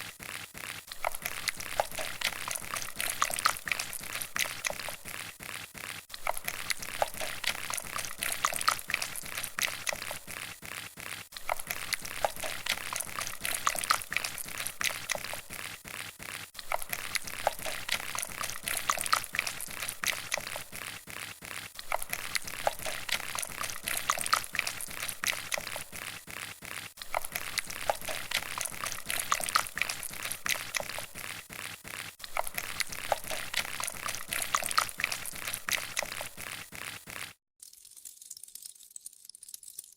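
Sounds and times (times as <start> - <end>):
dense liquid-like crackling: 0.0 - 39.9.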